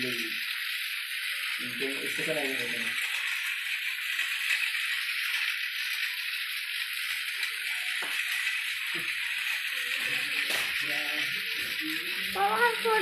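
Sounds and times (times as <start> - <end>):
toy train rattling on track: 0.0 - 13.0.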